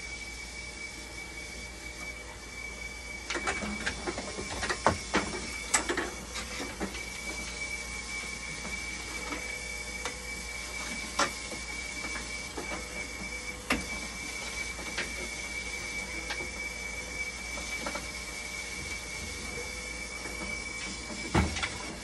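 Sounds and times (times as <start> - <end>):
machine high whine: 0.0 - 22.0.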